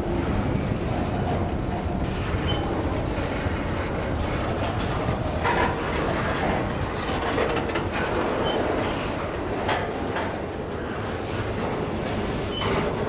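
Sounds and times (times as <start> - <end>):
freight train wheels rumbling: 0.0 - 13.0
train clanks: 0.0 - 13.0.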